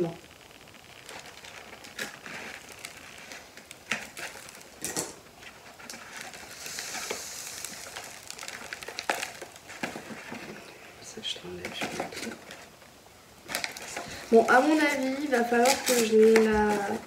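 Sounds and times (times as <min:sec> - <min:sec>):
paper crinkling: 0:00.4 - 0:17.0.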